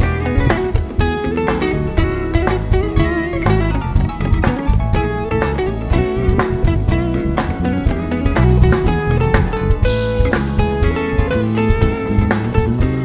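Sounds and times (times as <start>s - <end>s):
bass: 0.0s - 13.0s
drum kit beat: 0.0s - 13.0s
electric guitar: 0.0s - 13.0s.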